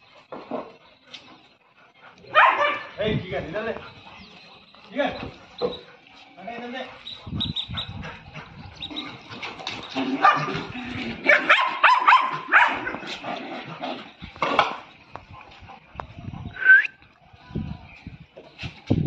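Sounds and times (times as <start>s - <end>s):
dogs barking and yipping: 0.0s - 19.0s.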